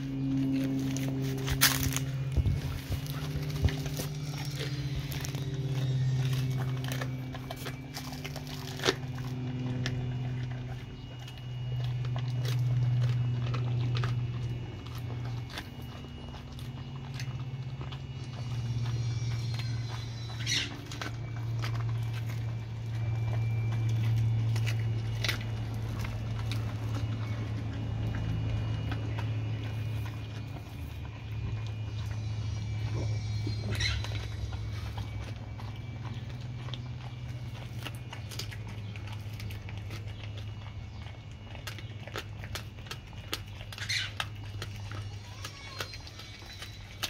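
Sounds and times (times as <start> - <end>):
dog chewing fish bones: 0.0 - 47.0
steady low hum: 0.0 - 47.0.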